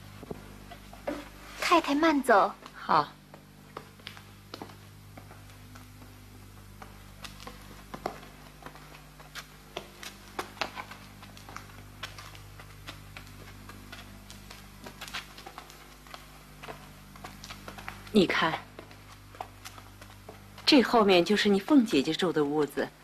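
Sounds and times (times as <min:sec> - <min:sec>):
footsteps of people walking: 0:00.0 - 0:23.0
steady low hum: 0:00.0 - 0:23.0.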